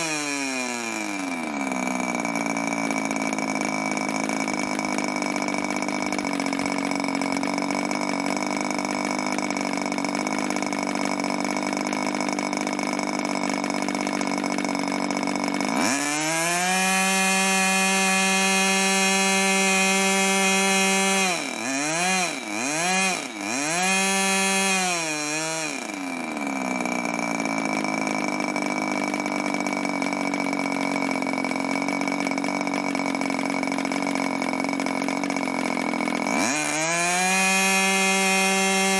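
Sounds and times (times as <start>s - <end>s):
model glow engine revving: 0.0s - 38.9s.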